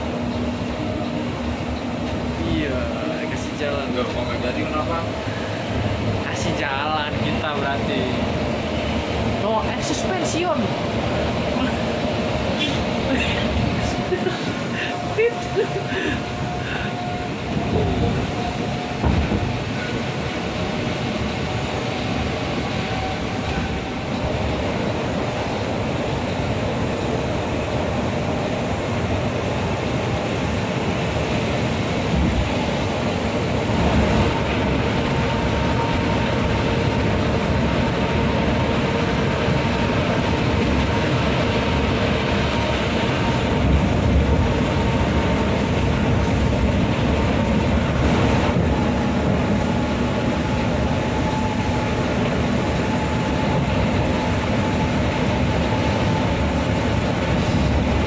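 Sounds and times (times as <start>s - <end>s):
bus engine and tyre rumble: 0.0s - 58.0s.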